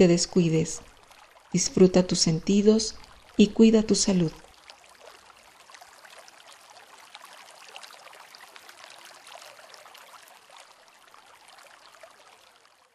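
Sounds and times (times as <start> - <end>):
water trickling and dripping: 0.0 - 12.9.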